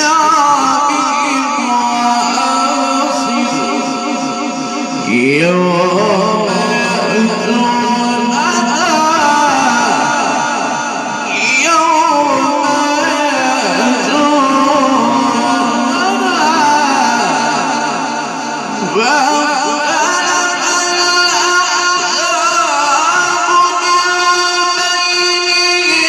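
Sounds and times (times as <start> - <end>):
man reciting melodically: 0.0 - 26.0.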